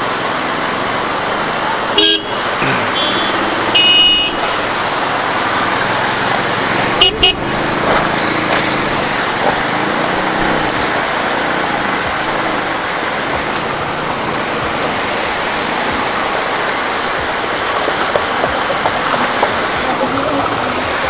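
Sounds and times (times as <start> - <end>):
rushing stream water: 0.0 - 21.0.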